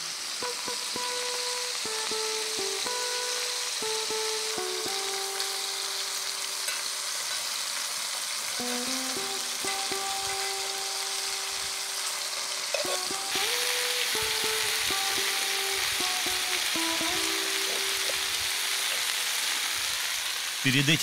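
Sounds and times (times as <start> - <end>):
patties sizzling in a skillet: 0.0 - 21.0
soft music with held notes: 0.3 - 20.4.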